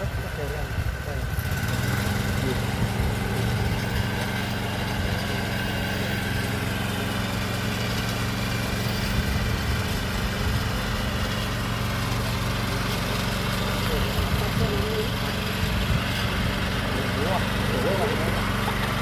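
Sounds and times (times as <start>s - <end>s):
small engine running steadily: 0.0s - 19.0s.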